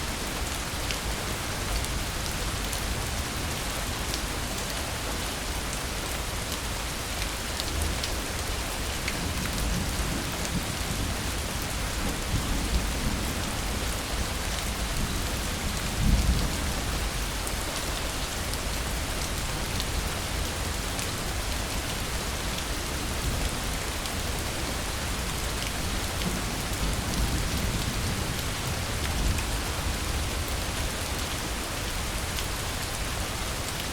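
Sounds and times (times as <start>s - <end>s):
dense rain falling: 0.0s - 33.9s.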